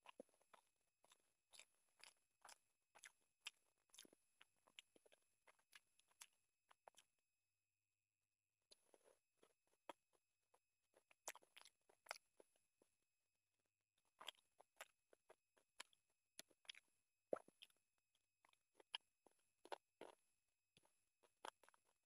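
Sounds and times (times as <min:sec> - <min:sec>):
chewing and lip smacks: 0:00.0 - 0:07.1, 0:08.7 - 0:12.6, 0:14.0 - 0:17.8, 0:18.4 - 0:20.2, 0:20.8 - 0:22.0.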